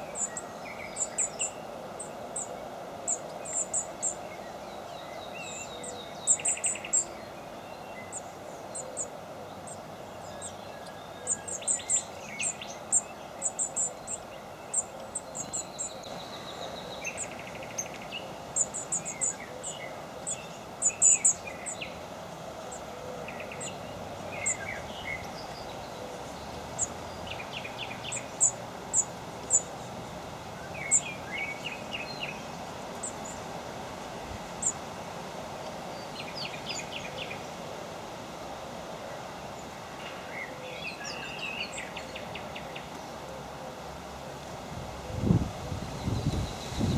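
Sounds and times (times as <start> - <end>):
small birds chirping: 0.0 - 38.0, 45.2 - 46.9
steady background hiss: 0.0 - 46.9.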